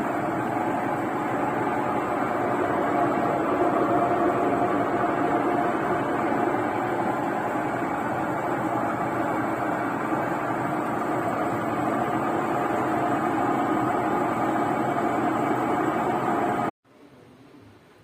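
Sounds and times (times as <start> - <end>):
washing machine running: 0.0 - 16.7.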